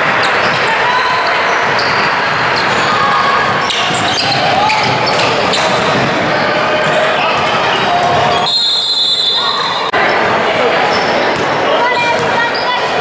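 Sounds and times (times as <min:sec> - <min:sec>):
sneakers squeaking: 0:00.0 - 0:13.0
voices of players and spectators: 0:00.0 - 0:13.0.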